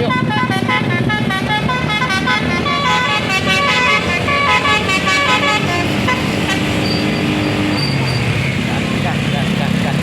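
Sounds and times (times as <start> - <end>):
multi-tone musical bus horn: 0.0 - 8.2.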